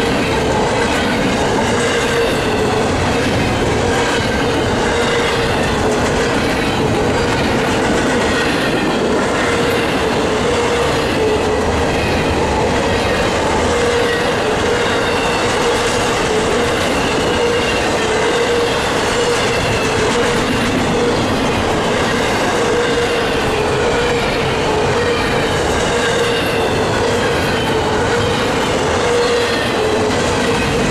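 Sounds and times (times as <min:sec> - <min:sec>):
ringing tone from wheels: 0:00.0 - 0:30.9
train wheels rumbling and clattering: 0:00.0 - 0:30.9.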